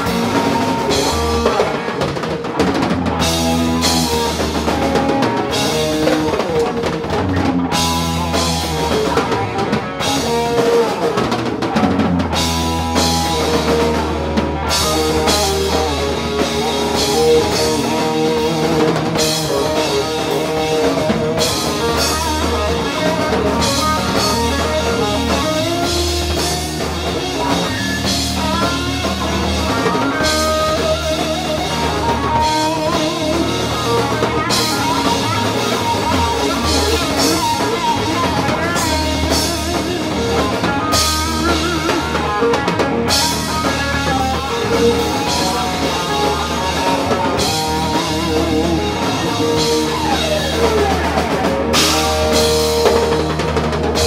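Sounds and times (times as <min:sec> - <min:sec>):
electric guitar: 0:00.0 - 0:54.0
pounding drum kit: 0:00.0 - 0:54.0.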